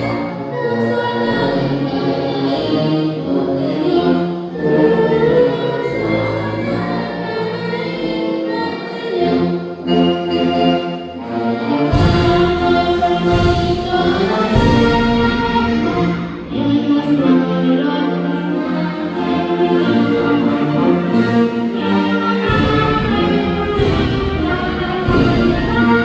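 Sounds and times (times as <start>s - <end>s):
choir singing with orchestra: 0.0s - 26.0s.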